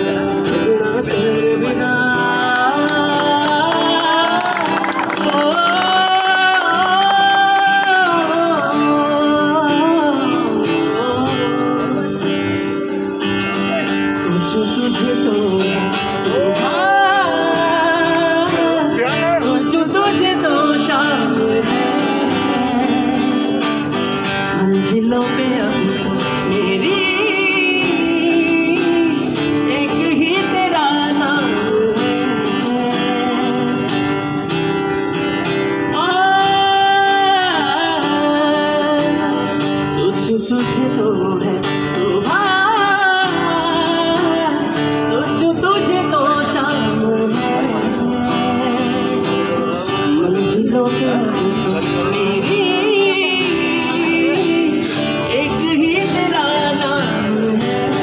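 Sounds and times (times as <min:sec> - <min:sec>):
man singing: 0:00.0 - 0:33.9, 0:35.8 - 0:58.0
acoustic guitar: 0:00.0 - 0:58.0.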